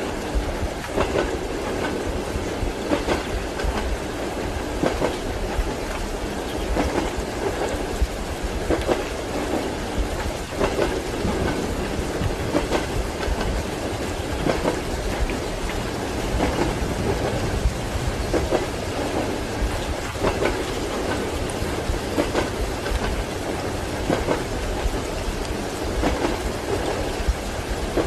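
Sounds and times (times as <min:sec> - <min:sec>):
rain: 0:00.0 - 0:28.0
train running rumble: 0:00.0 - 0:28.0
train wheels clacking over joints: 0:00.0 - 0:28.0.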